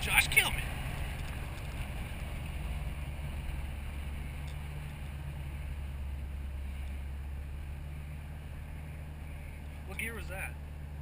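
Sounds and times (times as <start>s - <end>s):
car engine cruising: 0.0s - 11.0s
road and wind noise: 0.0s - 11.0s.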